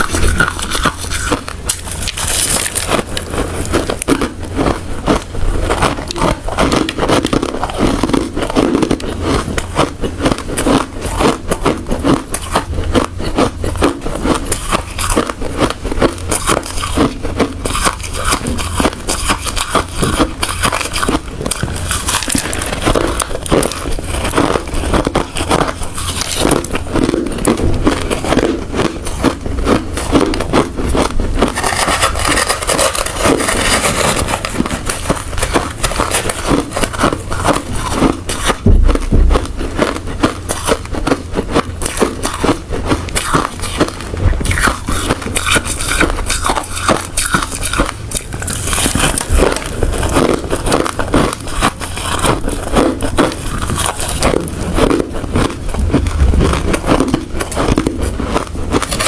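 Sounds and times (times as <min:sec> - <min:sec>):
chewing hard ice crunches: 0:00.0 - 0:59.0.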